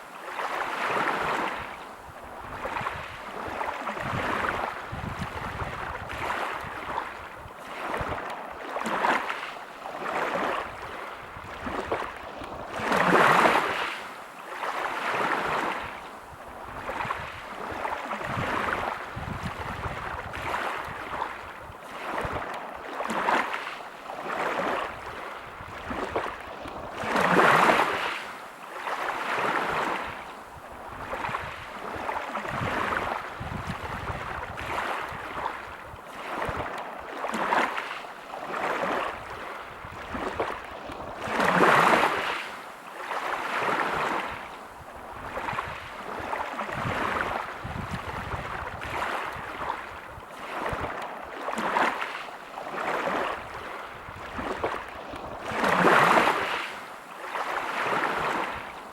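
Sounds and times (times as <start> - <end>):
big waves crashing: 0.0 - 58.9
waves on pebble beach: 0.0 - 58.9.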